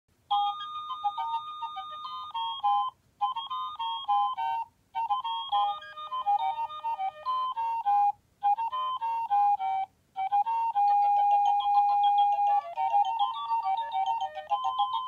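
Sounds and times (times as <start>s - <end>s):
toy playing electronic melody: 0.3s - 15.0s.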